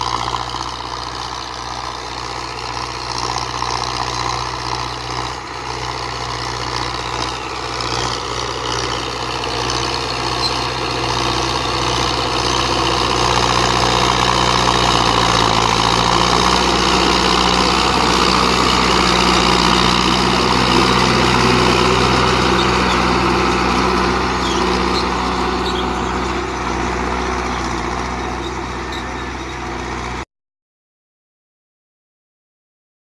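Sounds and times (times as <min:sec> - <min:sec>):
tractor diesel engine running: 0:00.0 - 0:30.2.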